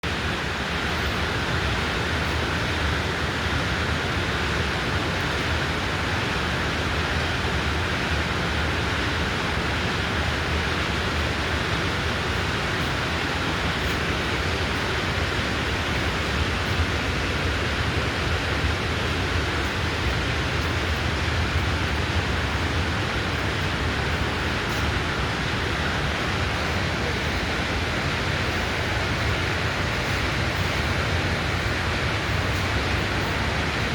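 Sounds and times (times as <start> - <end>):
steady rushing gas noise: 0.0 - 33.9.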